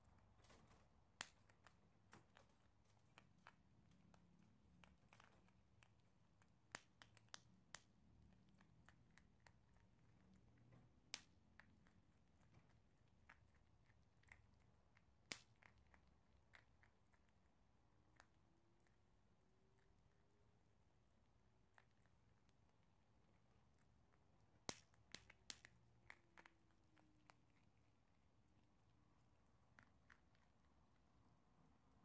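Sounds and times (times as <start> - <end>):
animal chewing dry pellets: 0.4 - 31.1.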